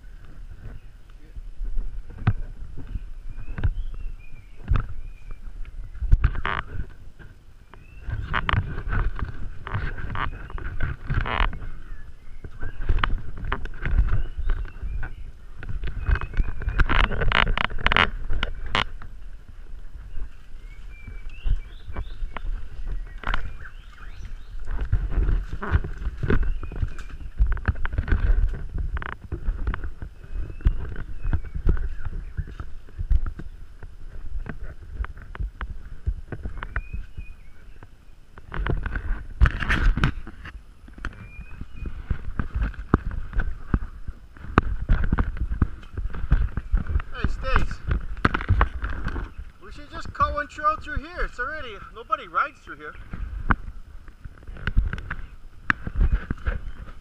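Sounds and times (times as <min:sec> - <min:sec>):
wind rumble on microphone: 0:00.0 - 0:52.1, 0:52.9 - 0:57.0
footsteps on dry leaves and twigs: 0:00.0 - 0:57.0
brush rustling and snapping: 0:02.1 - 0:50.8, 0:53.0 - 0:57.0.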